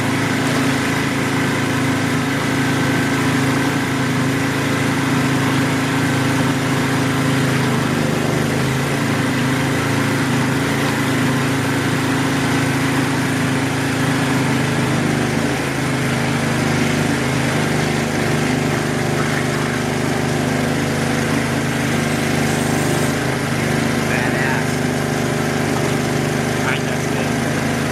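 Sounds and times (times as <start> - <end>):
small gasoline engine running: 0.0 - 27.9.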